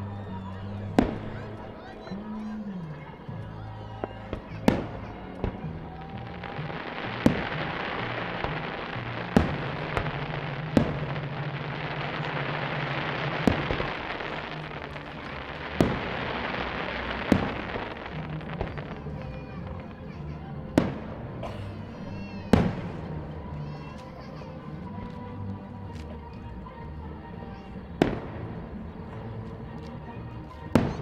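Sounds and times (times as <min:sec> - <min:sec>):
crackling hiss of fireworks: 0:00.0 - 0:31.0
firework bangs: 0:00.2 - 0:24.6, 0:28.0 - 0:29.8.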